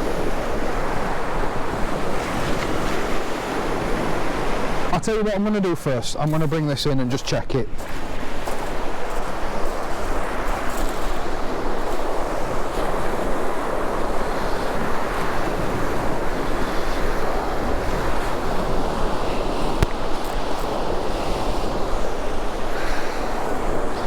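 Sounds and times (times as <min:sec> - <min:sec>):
wind on microphone: 0:00.0 - 0:05.0, 0:07.7 - 0:24.0
surf washing onto beach: 0:00.0 - 0:24.0.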